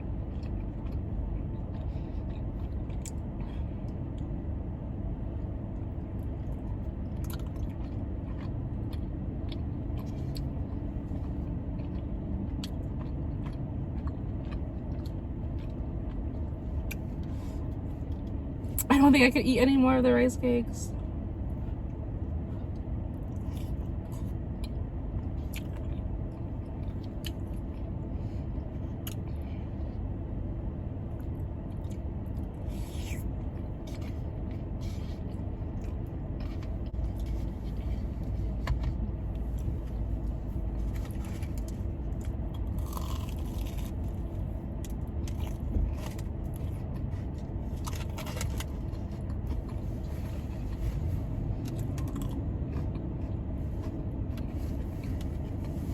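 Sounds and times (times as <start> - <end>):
crunchy eating sounds: 0.0 - 4.4, 5.8 - 18.8, 22.6 - 30.1, 31.1 - 55.9
car air conditioning hum: 0.0 - 55.9.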